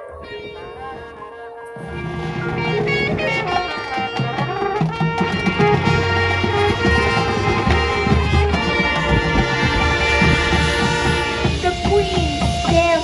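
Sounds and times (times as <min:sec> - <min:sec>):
marching band playing: 0:00.0 - 0:13.0
drum hits: 0:02.0 - 0:13.0.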